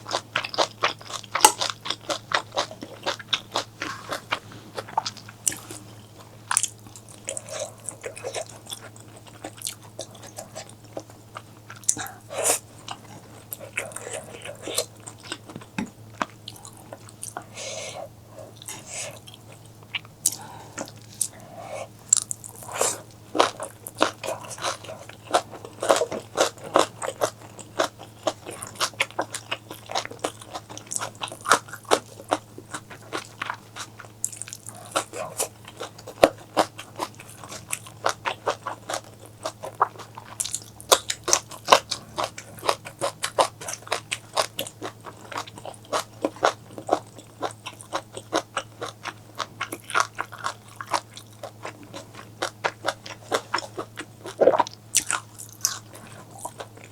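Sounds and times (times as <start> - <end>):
chewing and biting: 0.0 - 56.9.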